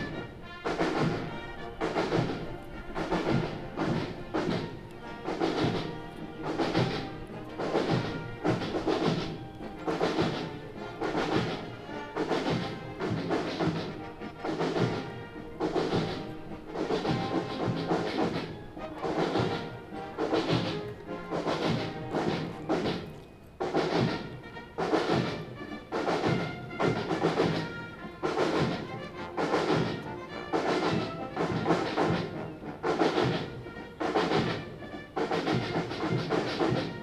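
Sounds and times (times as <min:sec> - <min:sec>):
marching band playing a march: 0:00.0 - 0:37.0
steady drum beat: 0:00.0 - 0:37.0.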